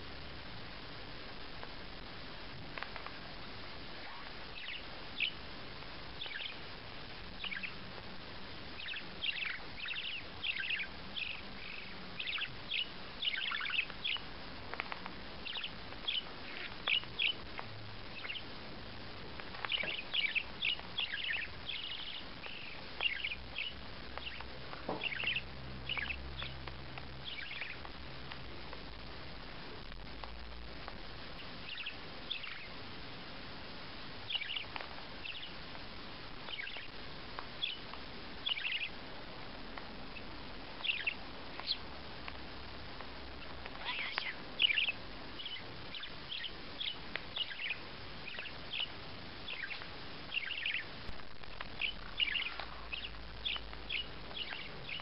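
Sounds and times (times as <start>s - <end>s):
small bird chirping: 1.2s - 55.0s.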